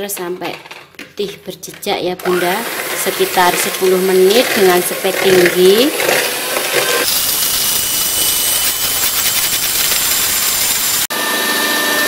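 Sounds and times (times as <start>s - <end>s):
electric hand mixer whirring: 2.2s - 12.0s.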